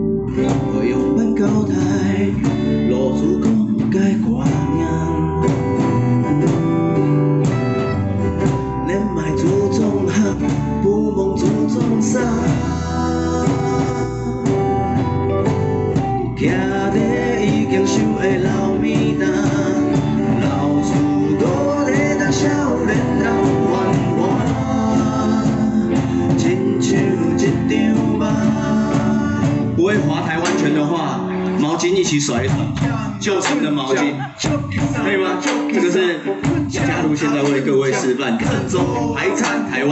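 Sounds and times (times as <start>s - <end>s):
drum kit: 0.0s - 39.9s
electric guitar: 0.0s - 39.9s
strummed acoustic guitar: 0.0s - 39.9s
man singing: 0.3s - 6.4s, 8.7s - 14.8s, 16.3s - 39.9s.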